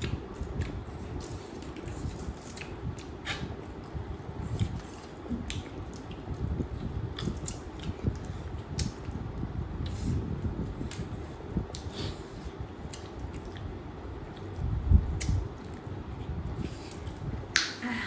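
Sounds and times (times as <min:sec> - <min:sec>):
wet chewing and lip smacking: 0:00.0 - 0:17.8.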